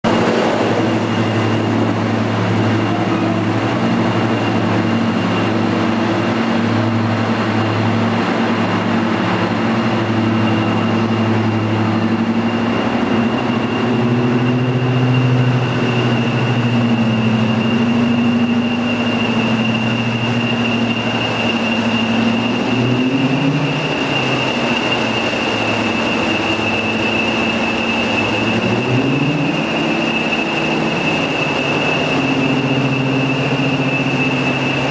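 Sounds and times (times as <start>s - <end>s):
diesel locomotive engines rumbling: 0.0s - 34.9s
high whistle: 0.1s - 34.9s.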